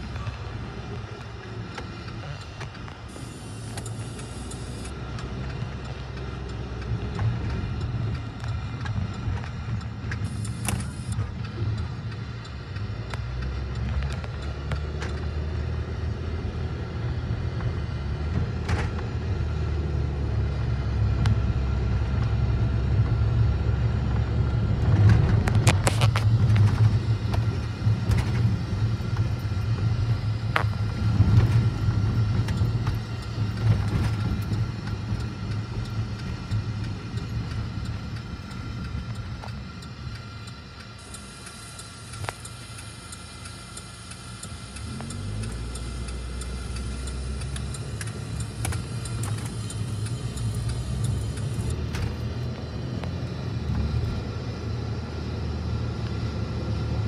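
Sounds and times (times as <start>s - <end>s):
car engine pulling away: 0.0s - 40.2s, 43.9s - 57.0s
car road rumble inside cabin: 0.0s - 57.0s.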